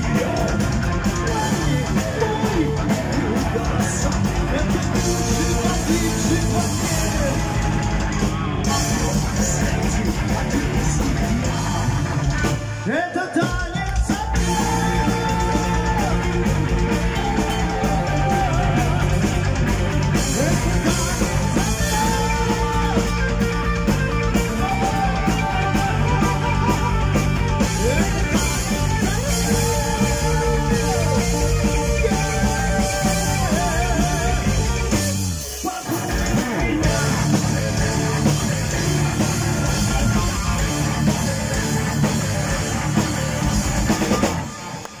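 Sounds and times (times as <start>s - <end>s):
man singing: 0.0s - 43.3s
heavy metal band playing: 0.0s - 45.0s.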